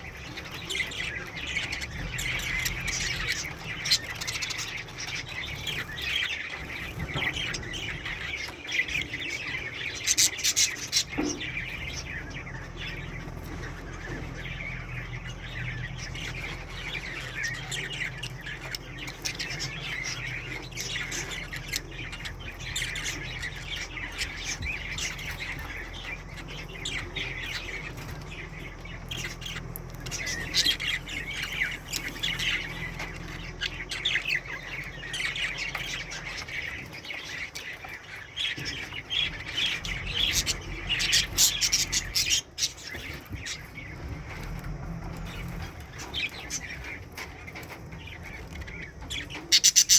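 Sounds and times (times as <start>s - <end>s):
budgerigars chattering and chirping: 0.0s - 49.9s.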